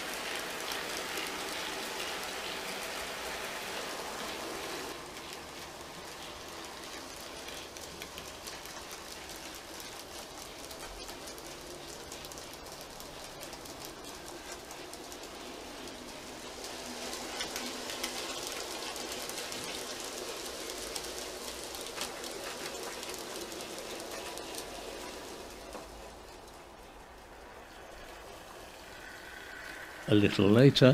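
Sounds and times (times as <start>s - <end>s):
model train running on track: 0.0s - 30.9s.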